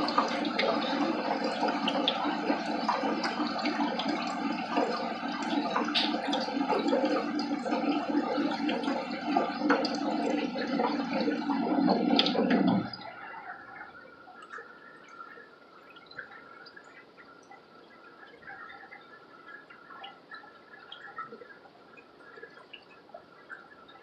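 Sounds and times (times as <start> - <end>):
water dripping: 0.0 - 24.0.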